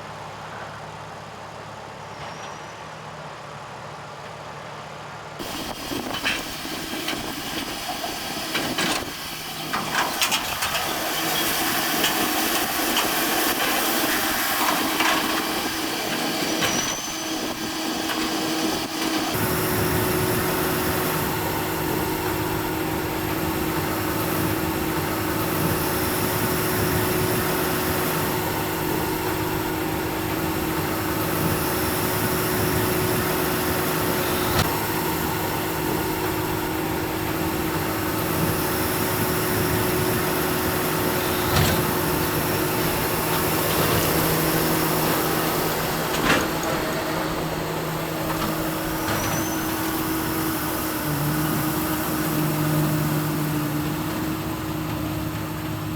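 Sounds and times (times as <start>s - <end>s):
tractor and baler drone: 0.0s - 55.9s.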